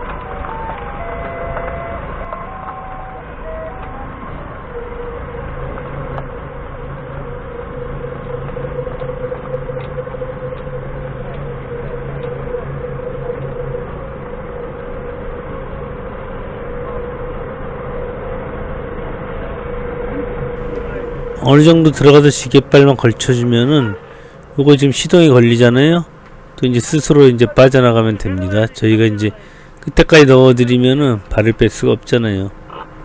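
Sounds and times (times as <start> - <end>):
forklift engine running: 0.0 - 33.0
low hum: 0.0 - 33.0
steady whine: 0.0 - 33.0.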